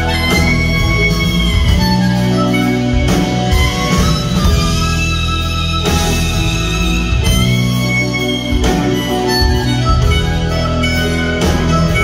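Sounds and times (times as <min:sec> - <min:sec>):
bass guitar: 0:00.0 - 0:12.0
drums: 0:00.0 - 0:12.0
electric guitars: 0:00.0 - 0:12.0
harmonica: 0:00.0 - 0:12.0.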